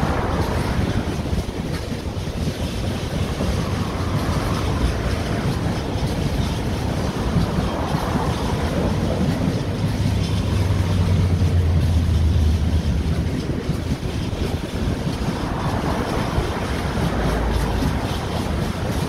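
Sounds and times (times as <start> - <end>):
train wheels rumbling on rail: 0.0 - 19.0
wind buffeting microphone: 0.0 - 19.0.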